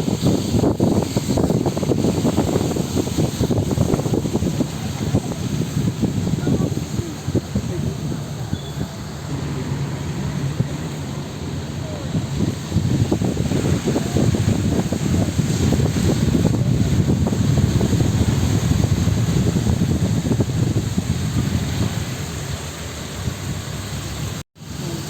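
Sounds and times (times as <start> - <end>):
moving vehicle rumble: 0.0 - 25.0
wind buffeting microphone: 0.0 - 25.0.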